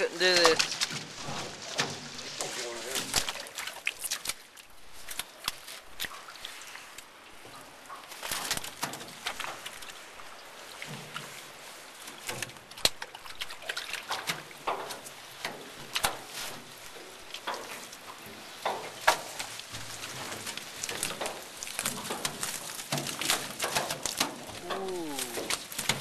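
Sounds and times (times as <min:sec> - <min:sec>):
water splashing and dripping: 0:00.0 - 0:26.0
wet net hauled over metal boat: 0:00.0 - 0:26.0.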